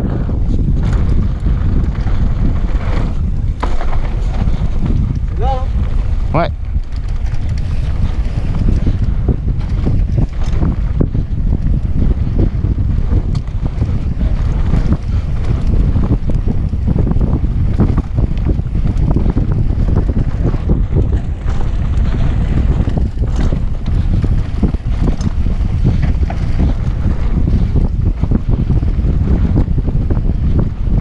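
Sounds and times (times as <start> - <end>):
bike rattles and knocks: 0.0 - 31.0
tyres on rough dirt trail: 0.0 - 31.0
wind buffeting microphone: 0.0 - 31.0.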